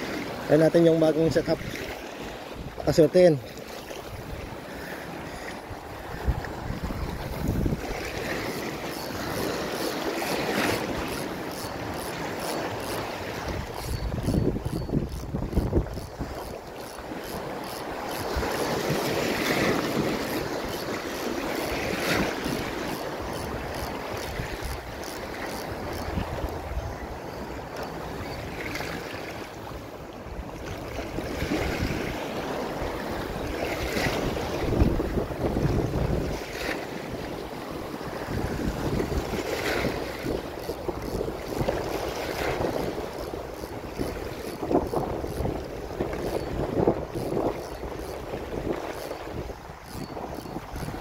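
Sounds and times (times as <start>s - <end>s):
sea waves washing over rocks: 0.0s - 26.7s, 30.6s - 51.0s
wind buffeting microphone: 4.0s - 28.7s, 29.6s - 51.0s.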